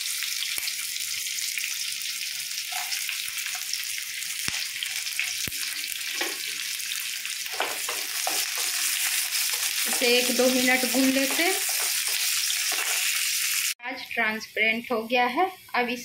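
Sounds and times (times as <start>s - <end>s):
onions sizzling in hot oil: 0.0s - 13.8s.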